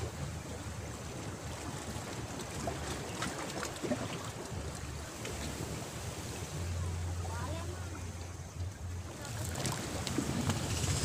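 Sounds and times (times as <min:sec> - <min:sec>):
water lapping against rocks: 0:00.0 - 0:11.0
wind rumbling on microphone: 0:00.0 - 0:11.0.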